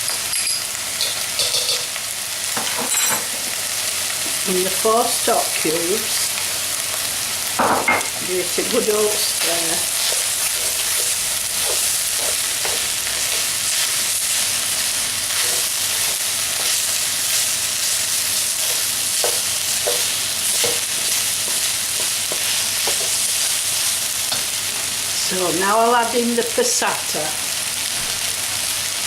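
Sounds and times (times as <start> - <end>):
meat sizzling in a hot pan: 0.0 - 29.0.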